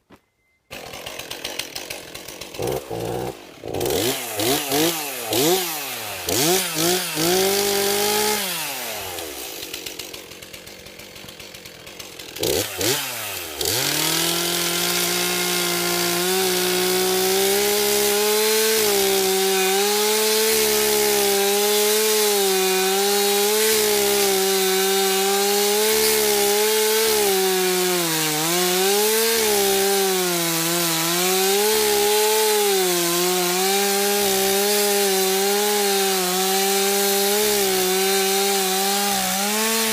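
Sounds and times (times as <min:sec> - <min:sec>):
chainsaw revving and cutting wood: 0:00.7 - 0:39.9.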